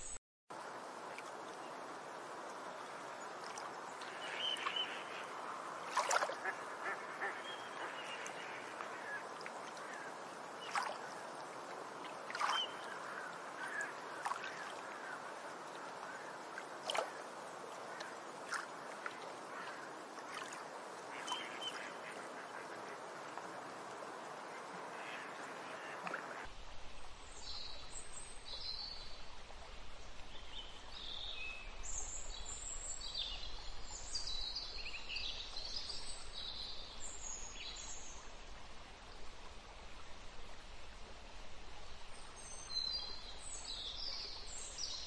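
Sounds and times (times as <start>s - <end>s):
steady background hiss: 0.0s - 45.0s.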